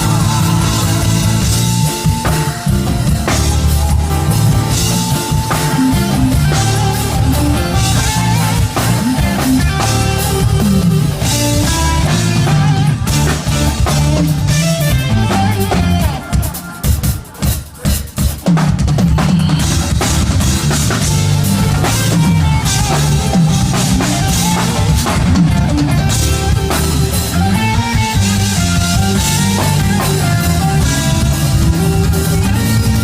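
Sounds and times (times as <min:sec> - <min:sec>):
live band playing: 0:00.0 - 0:33.0.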